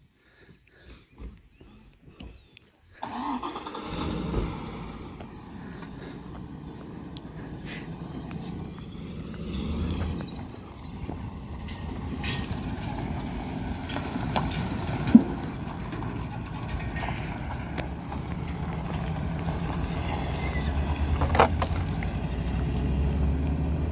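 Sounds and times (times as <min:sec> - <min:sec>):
truck engine running: 0:03.0 - 0:23.9.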